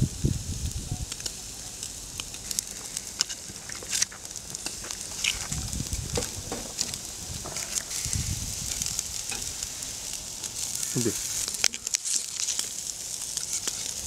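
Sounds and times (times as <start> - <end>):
coals crackling and popping: 0.0 - 14.0
meat sizzling on a grill: 0.0 - 14.0.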